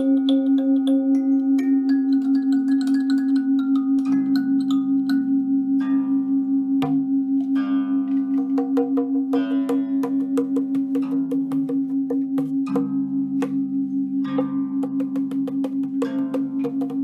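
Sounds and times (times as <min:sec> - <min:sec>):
fingers clicking on strings: 0:00.0 - 0:05.3, 0:08.1 - 0:17.0
plucked zither strings: 0:00.0 - 0:17.0
singing bowl humming: 0:00.0 - 0:17.0.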